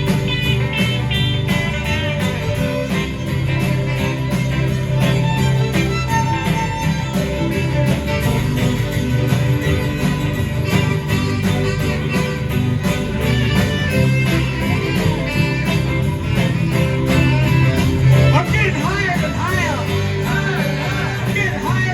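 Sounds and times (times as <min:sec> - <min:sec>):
live band playing amplified music: 0:00.0 - 0:21.9
steady drum beat: 0:00.0 - 0:21.9.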